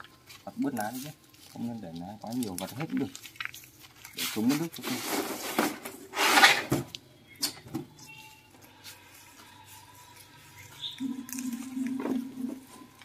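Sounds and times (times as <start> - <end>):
leaves rustling: 0.0 - 6.7, 8.2 - 13.0.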